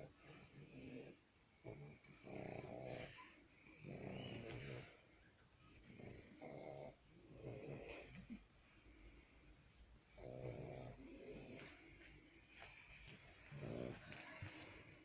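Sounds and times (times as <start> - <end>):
soft snoring: 0.0 - 15.0.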